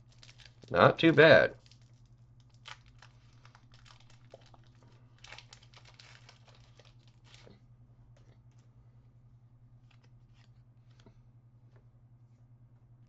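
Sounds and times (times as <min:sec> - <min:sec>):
faint crinkling of card packaging: 0:00.0 - 0:08.7, 0:09.8 - 0:11.8.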